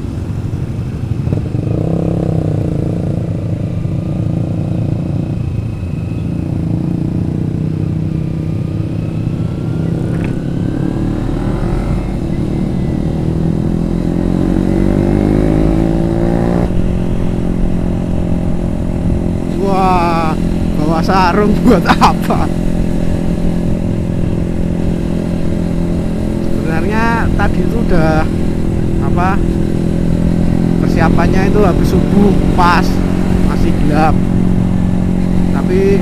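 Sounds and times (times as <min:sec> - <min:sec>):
motorcycle engine running: 0:00.0 - 0:36.0
road rumble: 0:00.0 - 0:36.0.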